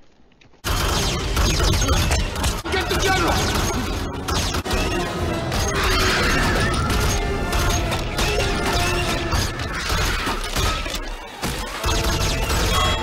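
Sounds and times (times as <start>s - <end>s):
futuristic rifle fire: 0.6s - 13.0s.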